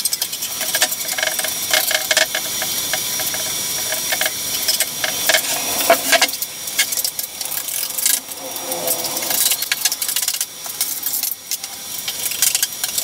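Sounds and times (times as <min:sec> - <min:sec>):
steady hiss: 0:00.8 - 0:13.0.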